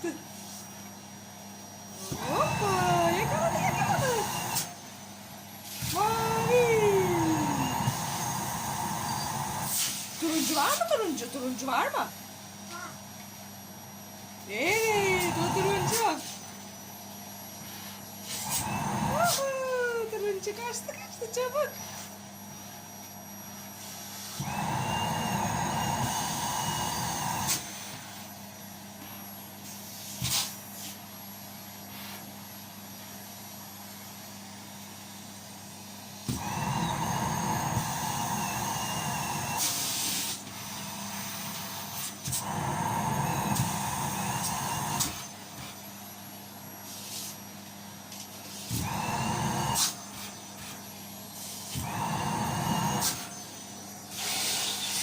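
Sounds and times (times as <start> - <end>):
vacuum cleaner motor surging: 0.0 - 12.1, 13.9 - 30.6, 33.0 - 55.0.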